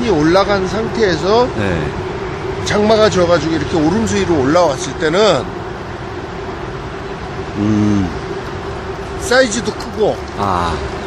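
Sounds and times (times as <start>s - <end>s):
steady outdoor rumble: 0.0s - 11.0s.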